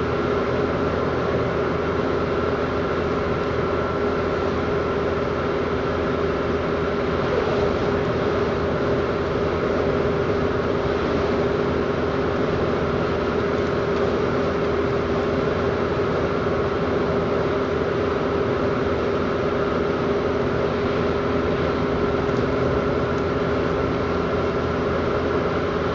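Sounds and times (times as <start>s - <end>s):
car engine hum: 0.0s - 25.9s
road noise: 0.0s - 25.9s.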